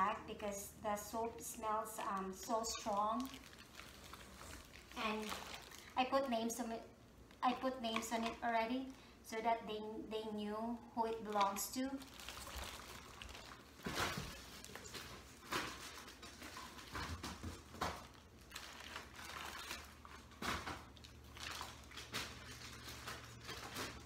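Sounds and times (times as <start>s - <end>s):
plastic bags crinkling: 1.8s - 8.4s, 11.1s - 24.0s.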